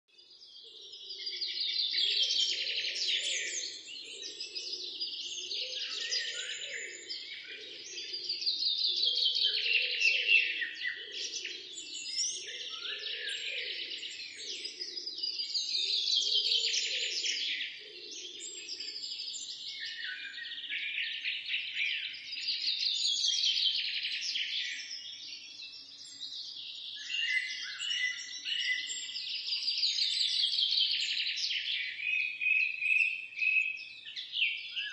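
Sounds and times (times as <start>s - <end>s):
small songbirds singing: 0.0s - 34.9s.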